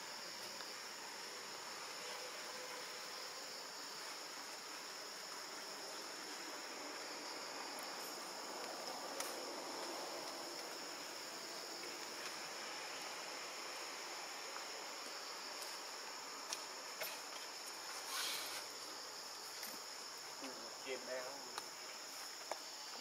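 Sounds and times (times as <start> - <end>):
high-pitched insect chorus: 0.0 - 23.0
rustle: 0.0 - 23.0.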